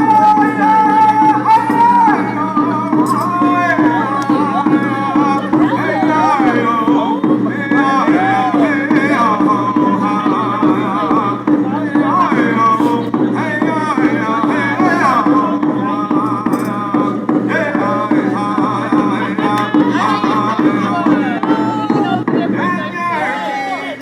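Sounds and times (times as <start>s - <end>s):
hand drums: 0.0s - 23.1s
group of people singing: 0.0s - 24.0s.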